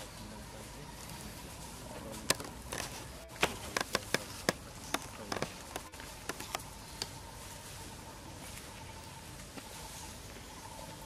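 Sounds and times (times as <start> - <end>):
dry leaves crackling: 0.0 - 11.0.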